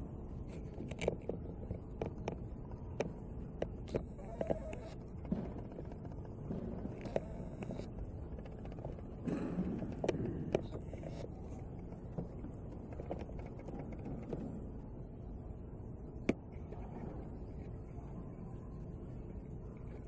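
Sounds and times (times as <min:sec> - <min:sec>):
faint indistinct murmur: 0:00.0 - 0:20.0.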